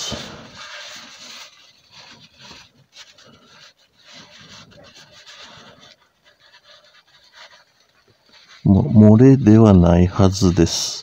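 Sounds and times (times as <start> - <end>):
rag rubbing and scratching: 0.0 - 10.8.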